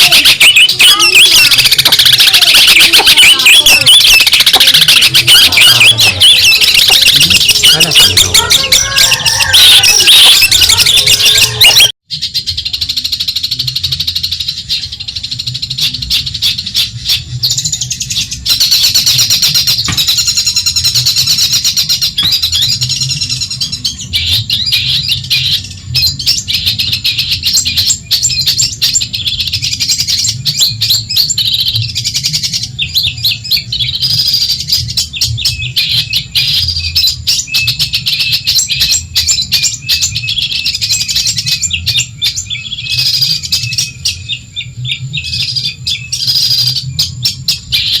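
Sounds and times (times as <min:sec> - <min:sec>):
bird chattering song: 0:00.0 - 0:48.0.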